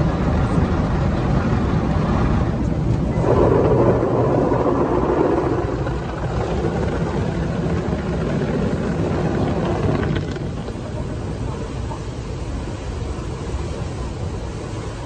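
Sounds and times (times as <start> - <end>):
water spraying on windshield: 0.0 - 15.0.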